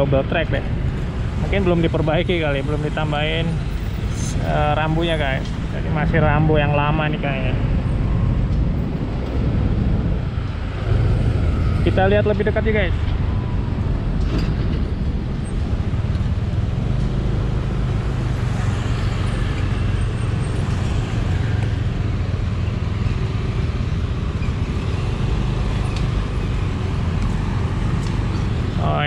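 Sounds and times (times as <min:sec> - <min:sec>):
cars and motorcycles passing: 0:00.0 - 0:29.0.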